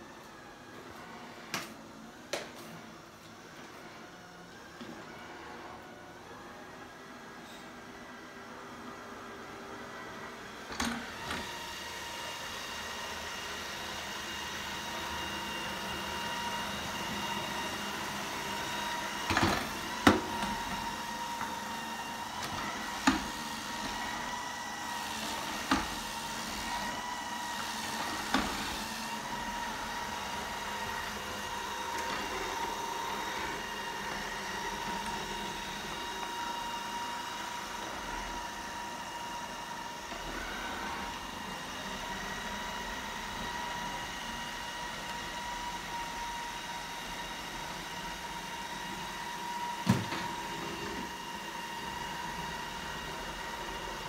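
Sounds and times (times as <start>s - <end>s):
robot vacuum motor humming: 10.6s - 54.0s.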